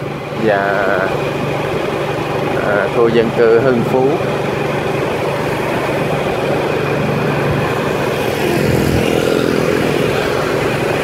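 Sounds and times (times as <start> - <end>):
motorbike engine running: 0.0 - 11.0
road and wind noise: 0.0 - 11.0.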